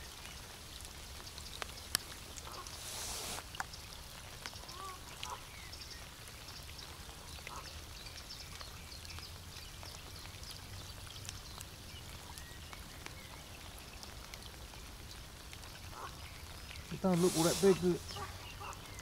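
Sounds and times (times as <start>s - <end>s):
rain pattering on lake: 0.0s - 19.0s.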